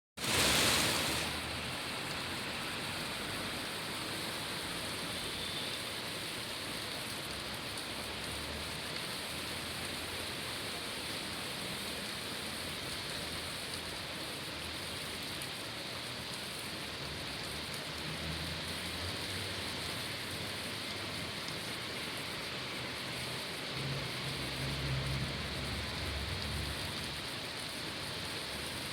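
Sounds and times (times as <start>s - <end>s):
steady rain hiss: 0.2s - 28.9s.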